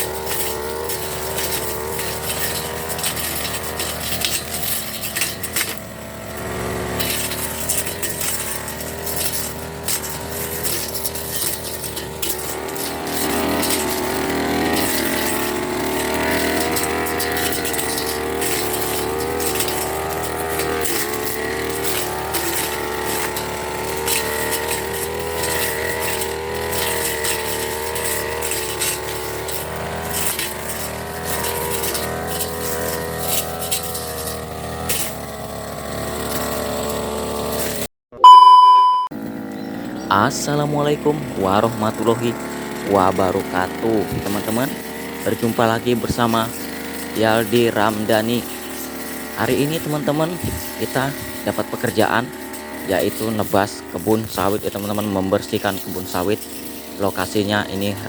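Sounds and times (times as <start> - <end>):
sharp clinks and ticks: 0.0 - 38.8, 40.4 - 58.0
brush cutter engine running: 0.0 - 58.0.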